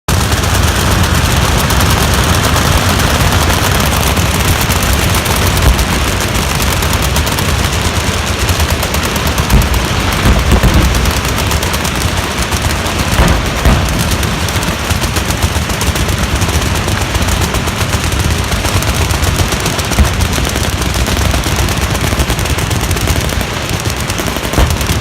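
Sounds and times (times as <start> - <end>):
loud gunshot reports: 0.1 - 25.0
machine guns firing: 0.1 - 25.0.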